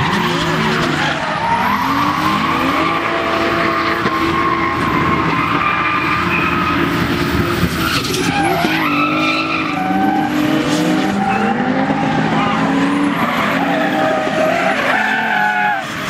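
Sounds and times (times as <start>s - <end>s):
car engines revving high: 0.0s - 16.0s
tyres screeching: 0.0s - 16.0s.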